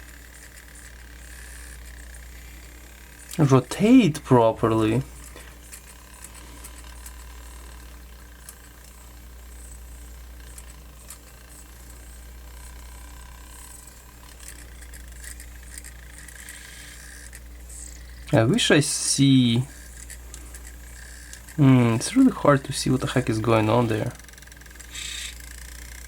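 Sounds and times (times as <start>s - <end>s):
disc mechanism whirring: 0.0s - 26.0s.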